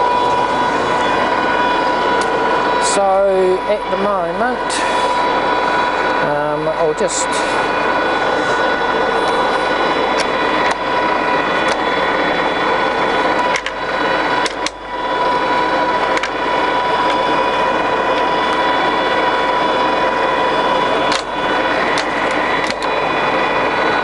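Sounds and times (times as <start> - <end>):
lathe humming with high whine: 0.0 - 24.0.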